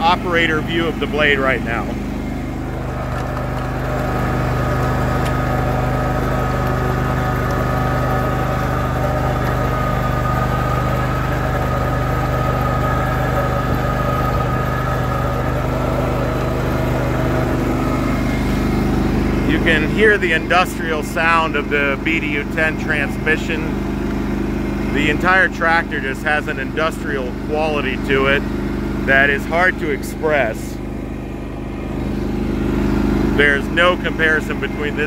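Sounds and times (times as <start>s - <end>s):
garden tractor engine under load: 0.0s - 35.0s
transmission whine: 0.0s - 35.0s.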